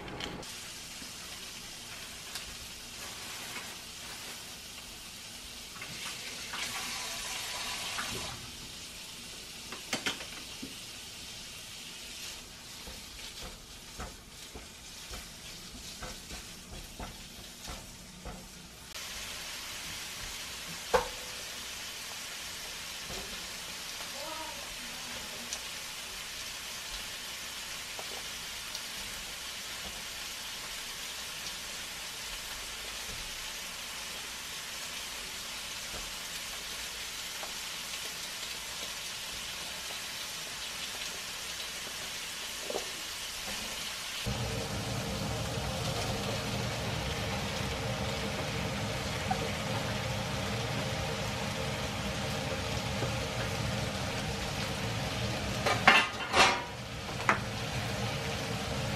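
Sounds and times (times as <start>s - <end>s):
meat sizzling in a frying pan: 0.4s - 58.9s.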